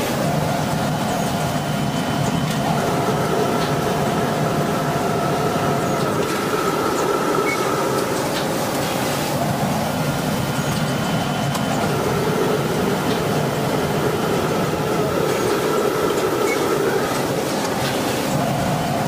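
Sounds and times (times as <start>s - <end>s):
ironing machine rushing noise: 0.0s - 19.0s.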